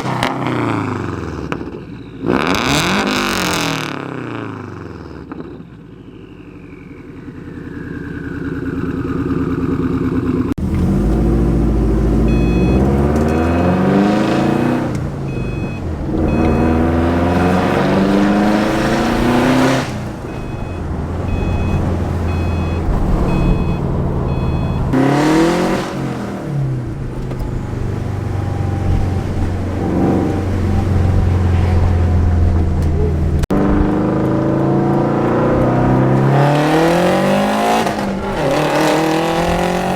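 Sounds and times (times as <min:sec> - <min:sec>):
car engine revving: 0:00.0 - 0:05.5, 0:07.3 - 0:39.9.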